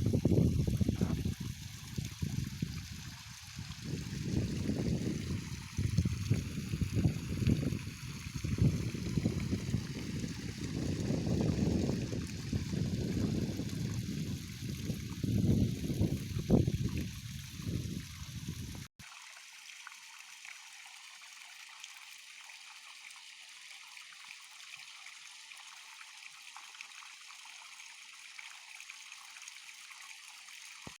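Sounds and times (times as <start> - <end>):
water trickling along a furrow: 0.0 - 31.0.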